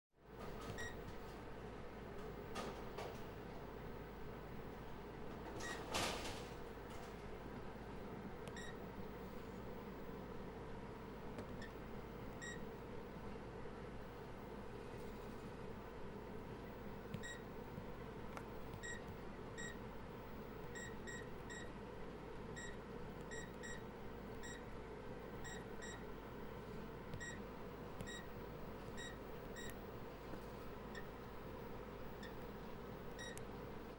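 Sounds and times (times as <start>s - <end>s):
steady background hum: 0.2s - 33.9s.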